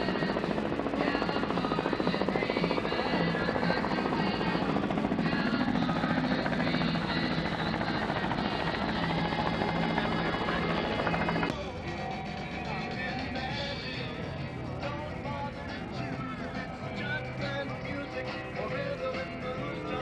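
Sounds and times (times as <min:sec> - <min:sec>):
engine running with fast pulsing: 0:00.0 - 0:20.0.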